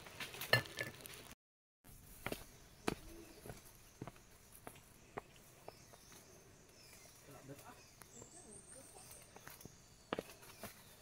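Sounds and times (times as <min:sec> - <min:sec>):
footsteps on rocks and dry leaves: 0:01.9 - 0:11.0.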